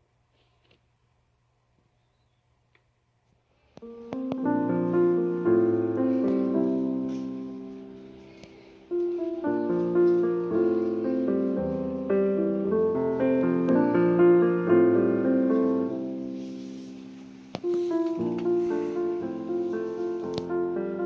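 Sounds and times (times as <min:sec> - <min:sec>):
piano music: 0:03.8 - 0:21.0.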